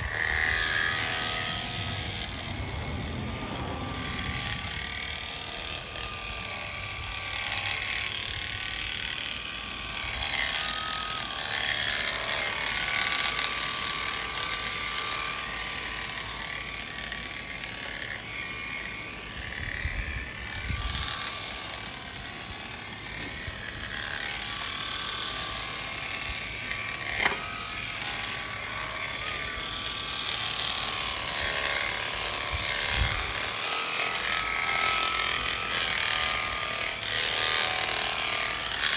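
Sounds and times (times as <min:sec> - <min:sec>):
electric shearing clippers whining: 0:00.0 - 0:38.9.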